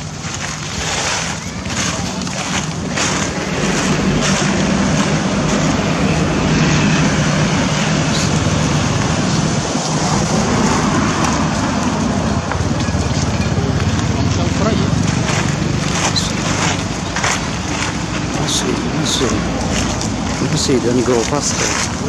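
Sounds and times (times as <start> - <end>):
low hum: 0.0 - 20.5
road traffic rushing: 0.0 - 22.0.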